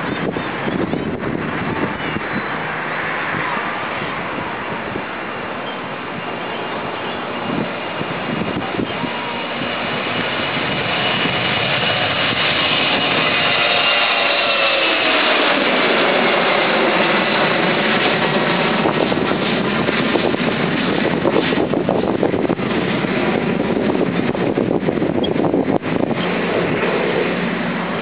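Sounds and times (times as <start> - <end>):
jet airliner engines roaring: 0.0 - 28.0
jet engine whine: 0.0 - 28.0.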